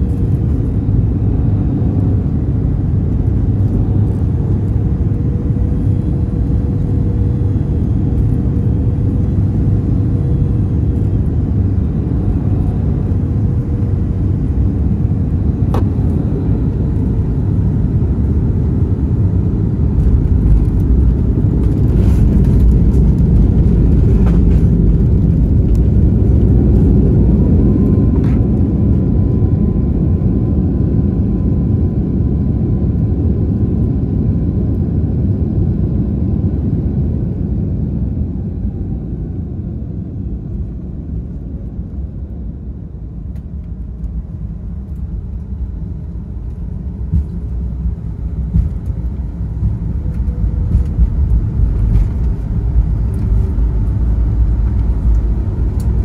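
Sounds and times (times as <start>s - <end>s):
vehicle rumble: 0.0s - 31.3s, 37.4s - 56.0s.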